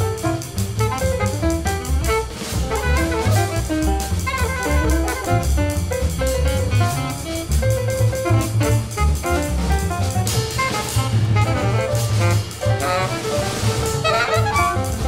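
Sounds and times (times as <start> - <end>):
drum kit and cymbals: 0.0 - 15.0
piano: 0.0 - 15.0
walking bass: 0.0 - 15.0
alto saxophone: 0.7 - 5.9, 6.6 - 15.0.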